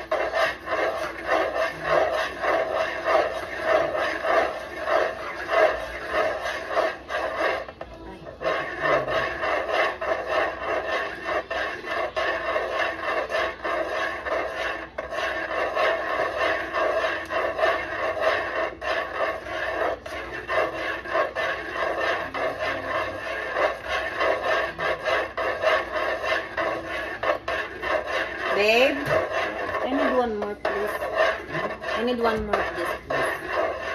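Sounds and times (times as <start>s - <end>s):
utensil scraping cooking pot: 0.0s - 33.9s.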